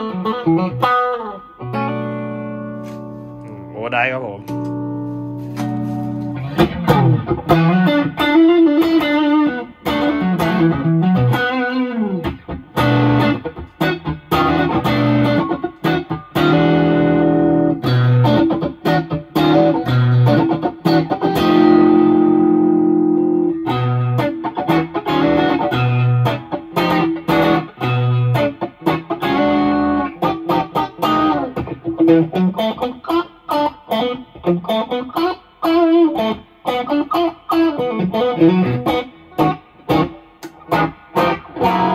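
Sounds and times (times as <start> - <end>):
overdriven electric guitar: 0.0 - 3.7, 4.4 - 41.9.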